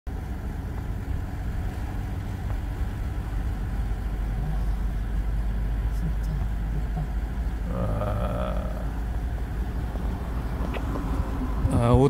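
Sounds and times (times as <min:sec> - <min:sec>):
car interior road rumble: 0:00.1 - 0:12.0.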